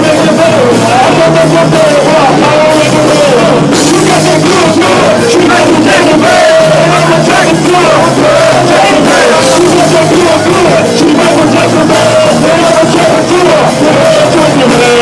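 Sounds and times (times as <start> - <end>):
drums: 0.0 - 15.0
electric guitar: 0.0 - 15.0
voices singing into microphones: 0.0 - 15.0.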